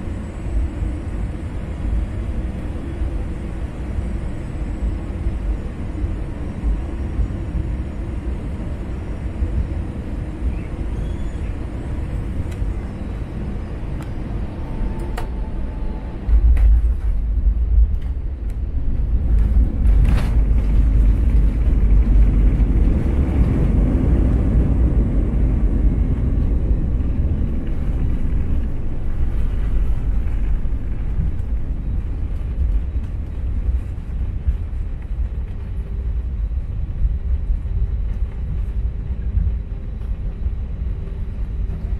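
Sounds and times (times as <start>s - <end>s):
airliner cabin rumble on runway: 0.0s - 41.9s.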